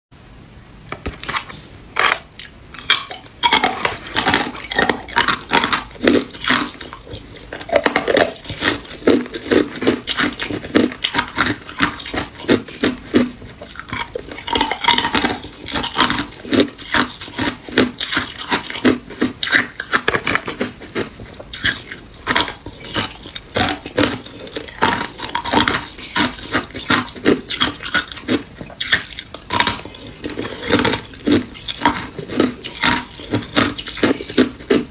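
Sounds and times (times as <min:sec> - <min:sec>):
ice cubes crunching: 0:02.4 - 0:34.9.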